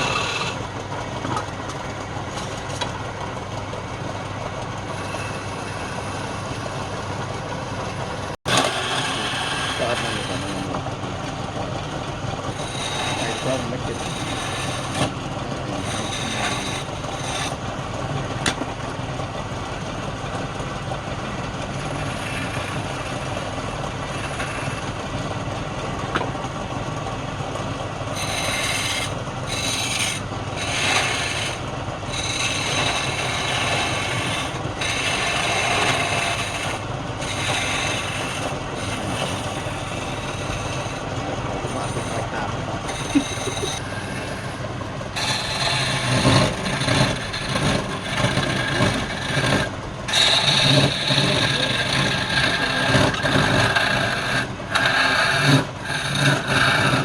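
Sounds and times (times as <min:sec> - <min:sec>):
lathe motor hum: 0:00.0 - 0:57.0
tool scraping spinning wood: 0:00.0 - 0:57.0.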